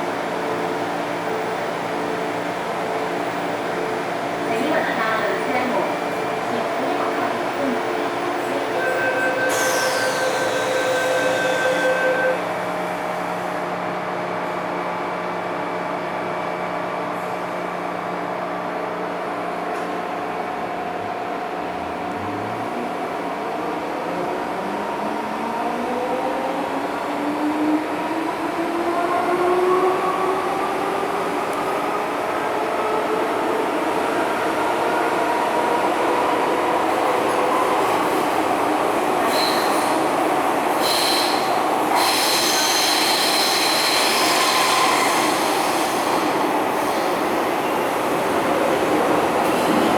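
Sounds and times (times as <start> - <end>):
train running: 0.0 - 15.4, 17.2 - 49.9.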